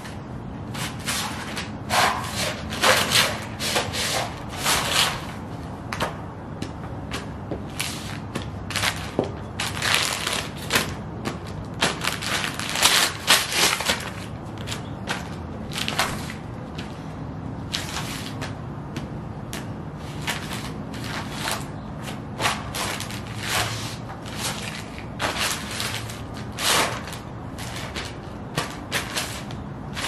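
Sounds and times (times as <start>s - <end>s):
boots crushing crinkling paper: 0.0s - 5.4s, 7.1s - 17.1s, 17.7s - 18.6s, 20.0s - 30.0s.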